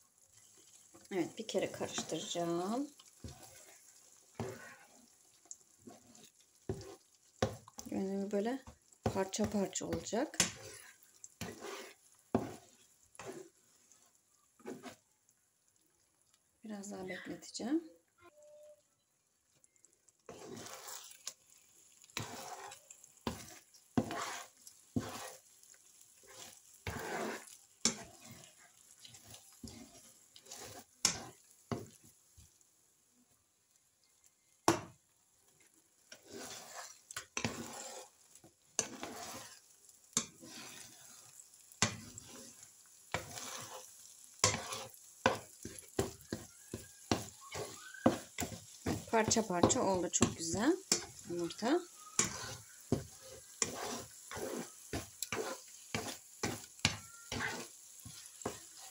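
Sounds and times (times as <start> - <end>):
faint frying sizzle: 0.0 - 58.9
spatula scraping frying pan: 0.1 - 15.1, 20.2 - 32.6, 34.6 - 58.9.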